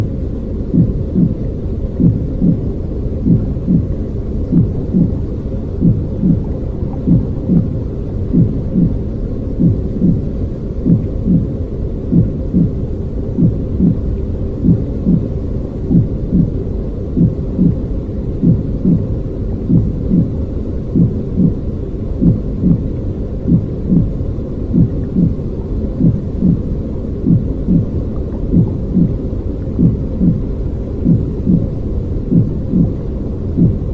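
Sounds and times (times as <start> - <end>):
amplified baby heartbeat: 0.0 - 33.9
constant noisy hiss: 0.0 - 33.9.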